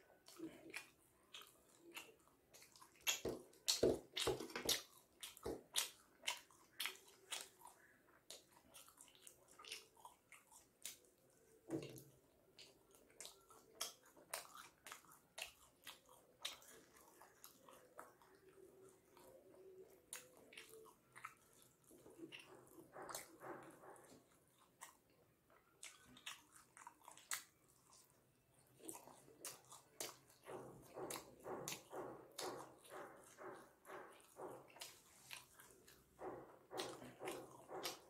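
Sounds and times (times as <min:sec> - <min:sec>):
wet chewing and smacking: 0:00.0 - 0:38.0.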